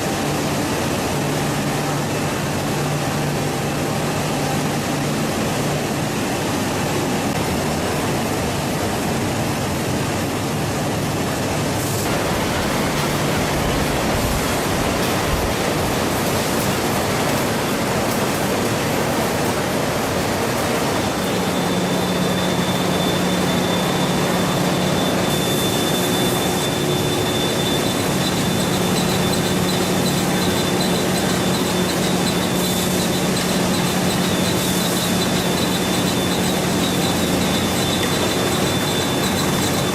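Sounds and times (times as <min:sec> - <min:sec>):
thin high whine: 0:00.0 - 0:08.1, 0:11.2 - 0:39.9
machinery running: 0:00.0 - 0:09.9, 0:10.6 - 0:39.9.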